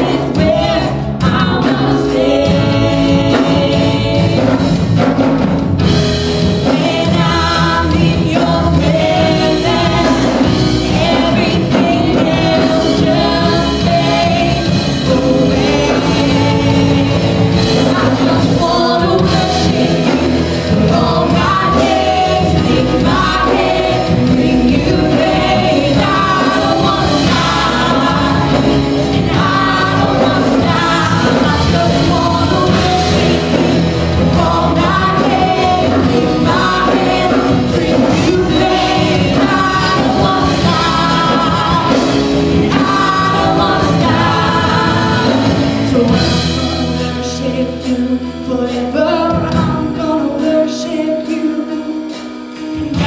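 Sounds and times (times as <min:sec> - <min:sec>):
women singing together: 0:00.0 - 0:05.2, 0:05.9 - 0:51.9
band playing guitars keyboard drums: 0:00.0 - 0:53.0.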